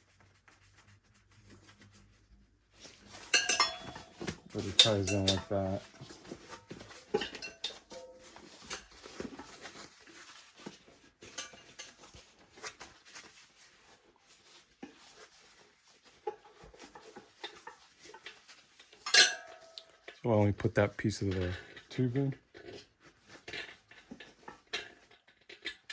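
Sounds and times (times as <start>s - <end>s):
clicks and rustles handling tire: 2.7s - 25.9s.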